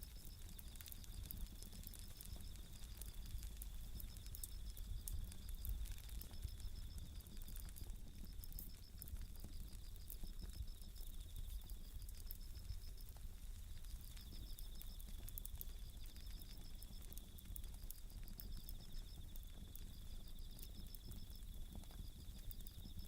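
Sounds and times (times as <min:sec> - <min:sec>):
campfire crackling: 0:00.0 - 0:23.0
crickets trilling: 0:00.0 - 0:23.0.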